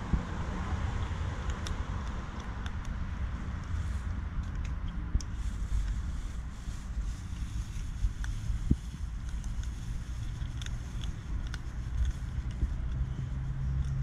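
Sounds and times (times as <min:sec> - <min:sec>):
steady low rumble: 0:00.0 - 0:14.0
kitten crunching dry kibble: 0:00.9 - 0:14.0.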